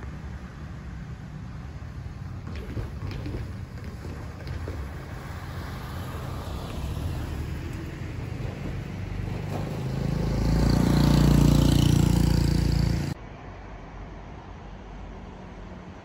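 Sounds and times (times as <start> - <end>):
car going by: 0.0 - 13.2
engine hum: 0.0 - 16.0
vehicles passing on street: 0.0 - 16.0.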